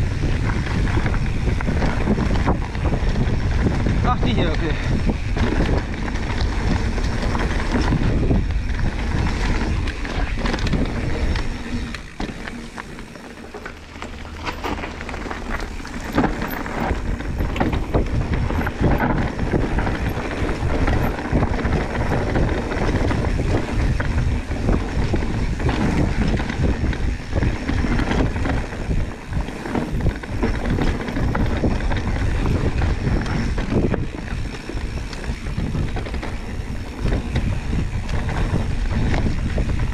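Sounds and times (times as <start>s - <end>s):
bike frame rattling and knocking: 0.0s - 39.9s
bike tyres rumbling on dirt: 0.0s - 39.9s
wind noise on microphone: 0.0s - 39.9s.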